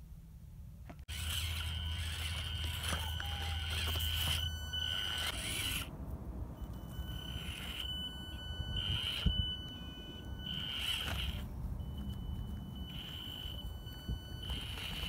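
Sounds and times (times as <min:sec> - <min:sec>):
electric motor high whine: 0:01.1 - 0:05.9, 0:06.6 - 0:15.0.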